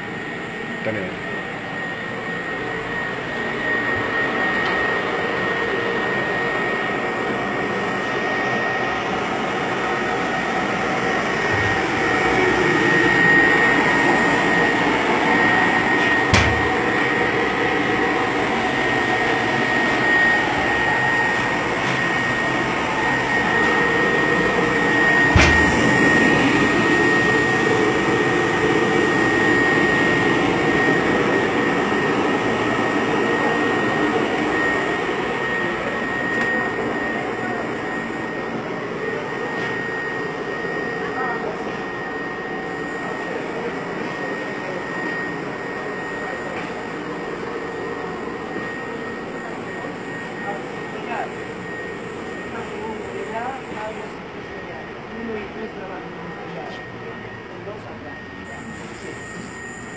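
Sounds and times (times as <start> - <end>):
machine whirring with high whine: 0.0 - 59.9.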